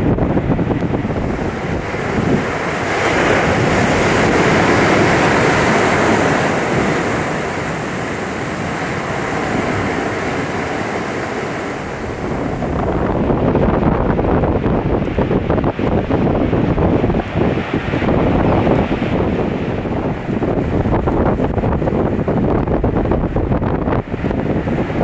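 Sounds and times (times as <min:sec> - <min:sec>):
rough sea water: 0:00.0 - 0:25.0
storm wind buffeting microphone: 0:00.0 - 0:25.0.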